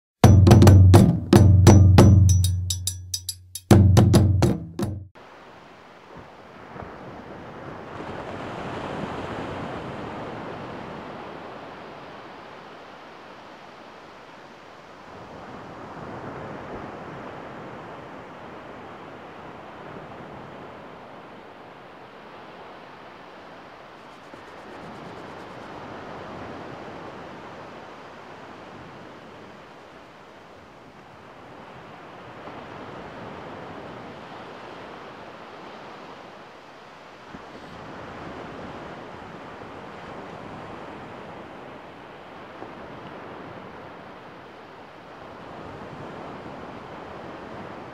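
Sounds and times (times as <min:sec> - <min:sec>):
small waves breaking on shore: 0:05.2 - 0:47.9.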